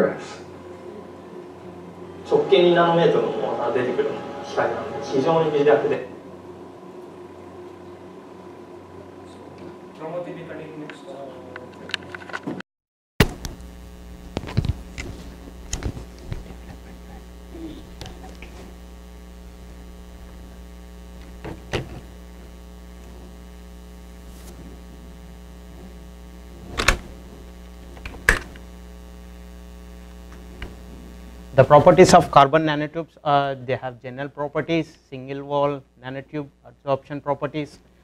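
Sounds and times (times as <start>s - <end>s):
electrical mains hum: 0.0s - 12.6s, 13.2s - 38.0s.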